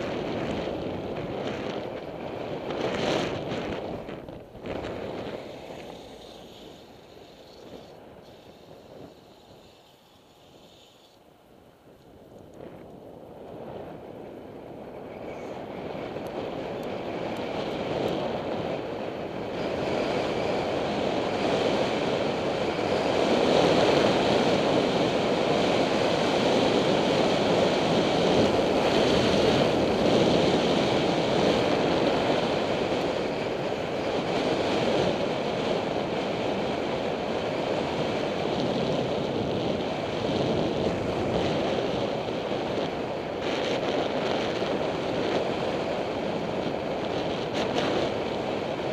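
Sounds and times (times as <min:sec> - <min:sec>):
wind roaring over microphone: 0:00.0 - 0:48.9.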